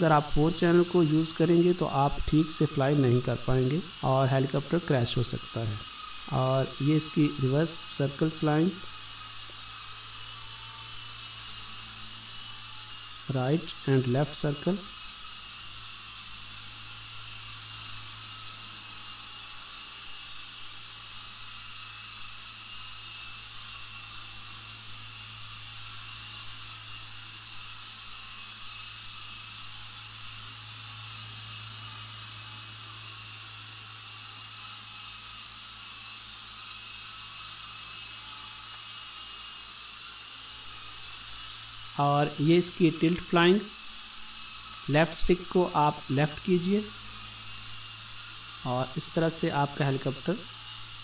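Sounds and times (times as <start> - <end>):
hiss: 0.0 - 51.0
rc helicopter motor whine: 0.0 - 51.0.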